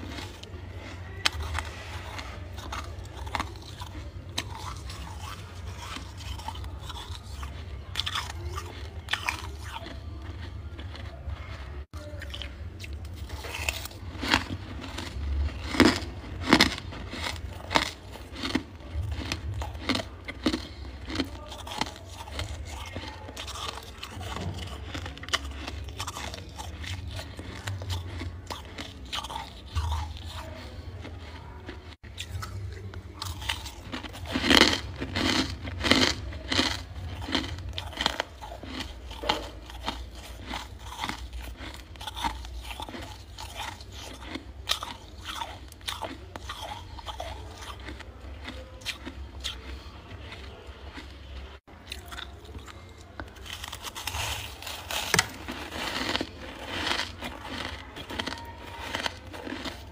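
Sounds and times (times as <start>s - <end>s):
crunchy chewing of frost: 0.0s - 59.9s.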